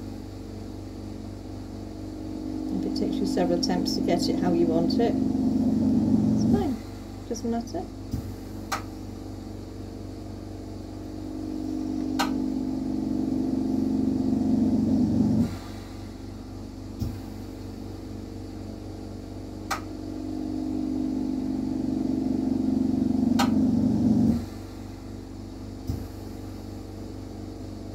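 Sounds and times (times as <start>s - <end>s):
machine motor humming: 0.0s - 27.0s.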